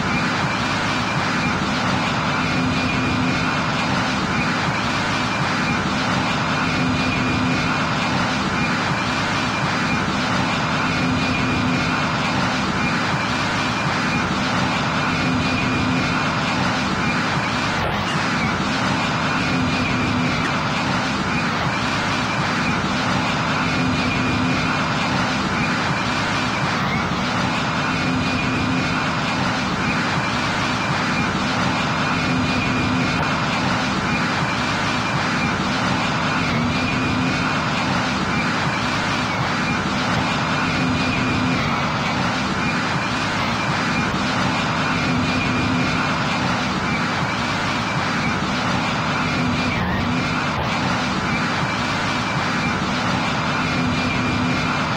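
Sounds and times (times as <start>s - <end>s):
jet aircraft in flight: 0.0s - 54.9s.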